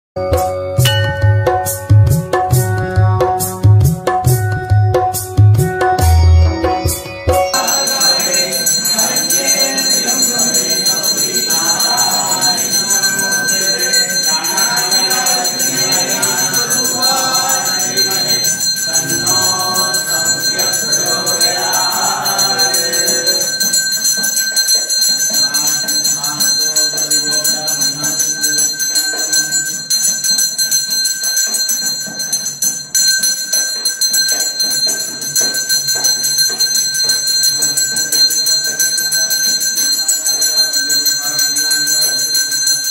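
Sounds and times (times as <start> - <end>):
temple bells ringing: 0.2 - 2.9, 7.4 - 42.9
voices: 7.6 - 42.9.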